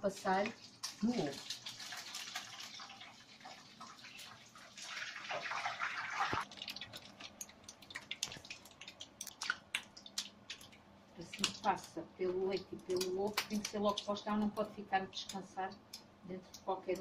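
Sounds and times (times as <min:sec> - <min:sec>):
frying oil crackling and popping: 0:00.0 - 0:17.0.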